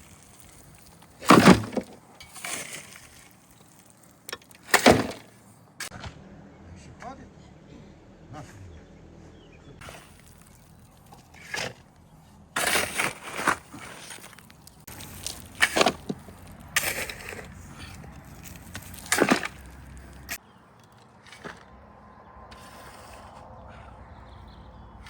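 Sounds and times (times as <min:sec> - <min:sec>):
crunching and scraping: 0:00.0 - 0:06.0, 0:09.8 - 0:24.0.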